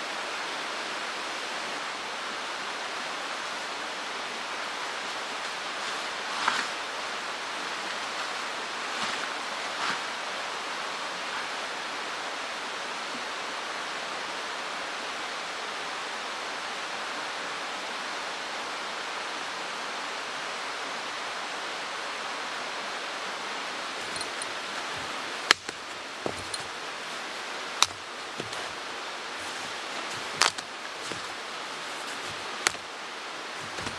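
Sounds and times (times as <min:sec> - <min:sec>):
stream rushing over rocks: 0:00.0 - 0:33.9.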